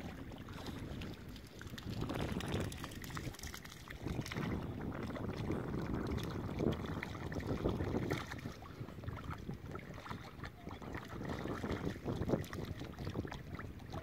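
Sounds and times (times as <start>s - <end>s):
water splashing and lapping: 0.0s - 14.0s
wind noise on microphone: 0.0s - 14.0s.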